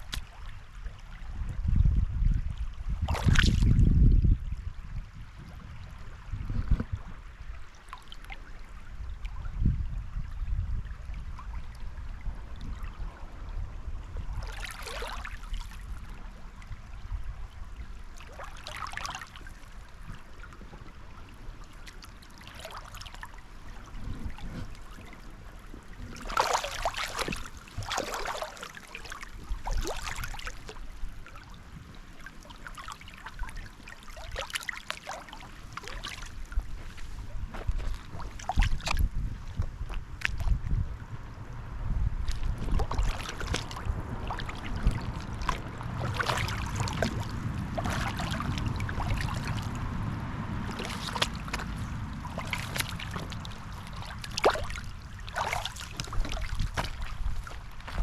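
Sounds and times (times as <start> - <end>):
river water splashing: 0.0 - 1.4, 2.6 - 3.8, 5.1 - 9.5, 10.1 - 58.0
low steady rumble: 0.0 - 58.0.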